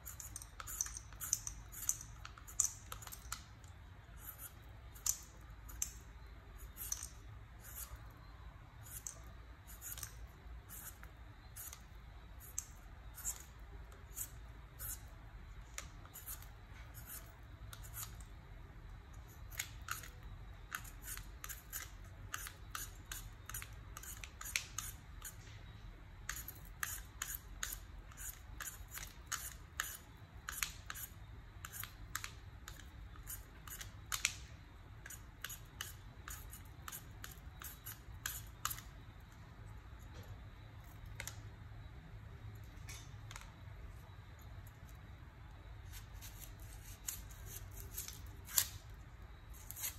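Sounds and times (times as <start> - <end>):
peeler scraping potato: 0.0 - 18.4, 19.1 - 25.5, 26.2 - 34.4, 35.0 - 39.0, 45.8 - 48.9, 49.5 - 49.9.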